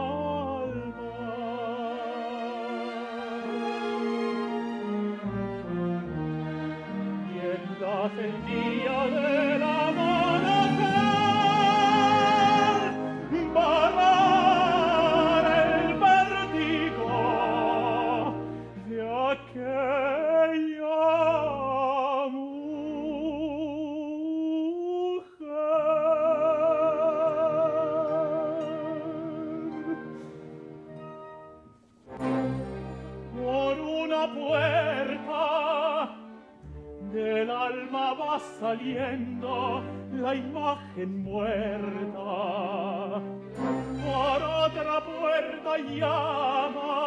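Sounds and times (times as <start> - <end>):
instrumental accompaniment: 0.0 - 19.2, 27.2 - 47.0
tenor singing operatic: 0.0 - 47.0.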